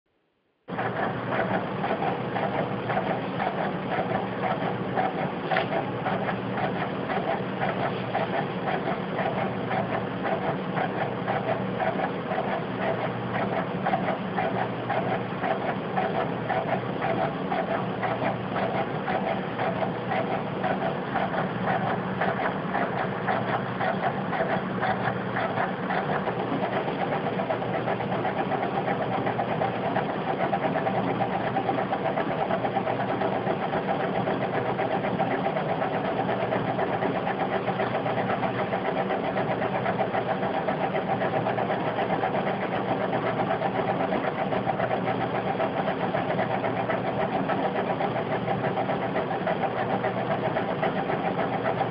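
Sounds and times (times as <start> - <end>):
dvd player mechanism whirring: 0.7 - 51.9
rapid mechanical clattering: 0.7 - 51.9.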